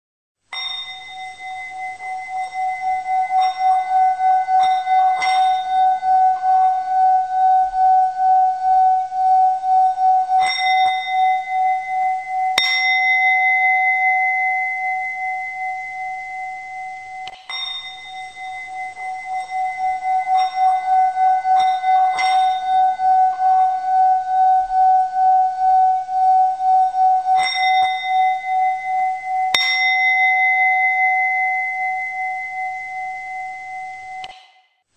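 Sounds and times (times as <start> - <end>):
singing bowl ringing: 0.5 - 34.7.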